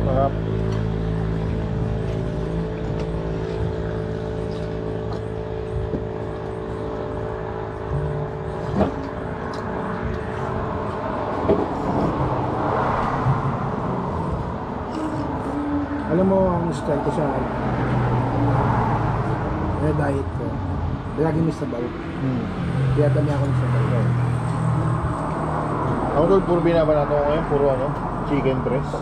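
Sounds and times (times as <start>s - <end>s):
rushing traffic noise: 0.0s - 29.0s
vehicle engine humming: 0.0s - 29.0s.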